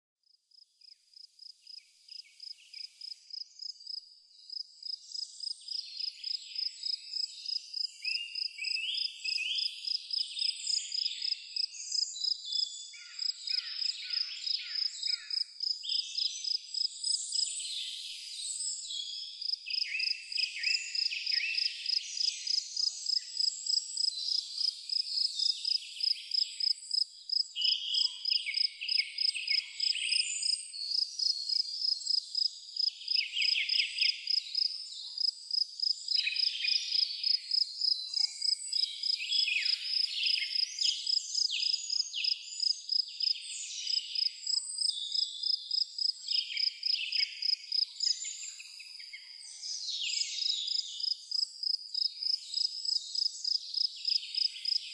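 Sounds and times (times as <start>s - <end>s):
cricket chirping: 0.5s - 49.1s, 50.4s - 54.9s
birds singing: 3.6s - 54.9s.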